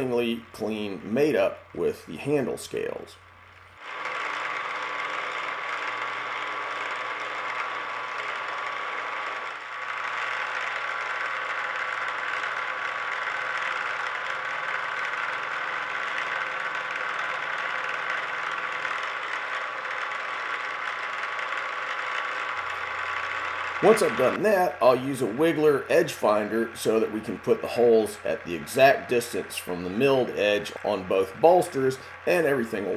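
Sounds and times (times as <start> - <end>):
milling machine whirring: 0.0 - 32.9.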